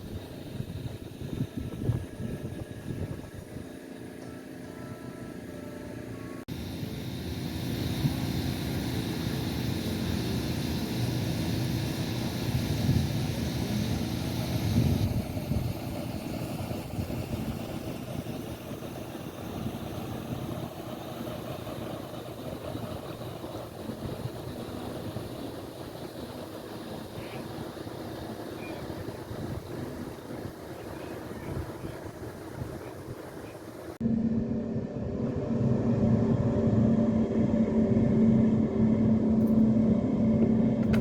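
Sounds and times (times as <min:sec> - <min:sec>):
motorboat engine passing: 0:00.0 - 0:41.0.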